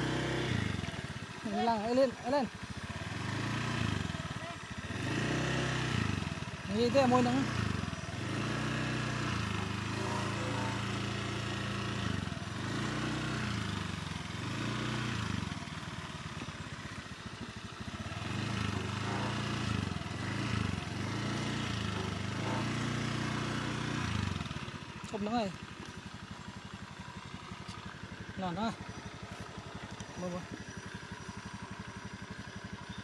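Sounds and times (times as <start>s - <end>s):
motor scooter engine revving: 0.0s - 33.0s.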